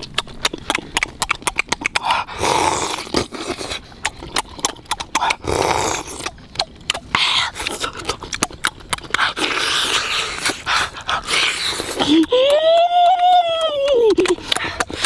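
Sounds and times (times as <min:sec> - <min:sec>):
wet slurping and sucking: 0:00.0 - 0:12.3
lip smacks: 0:00.0 - 0:15.0.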